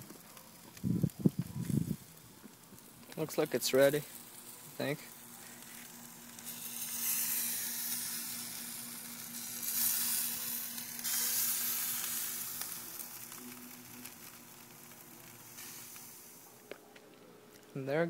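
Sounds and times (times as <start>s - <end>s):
fish sizzling on a grill: 0.0s - 16.8s.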